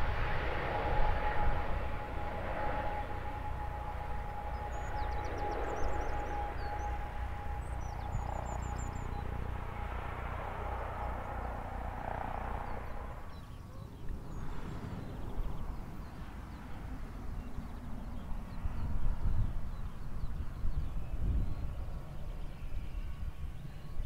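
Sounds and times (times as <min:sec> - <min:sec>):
turboprop plane landing: 0:00.0 - 0:24.0.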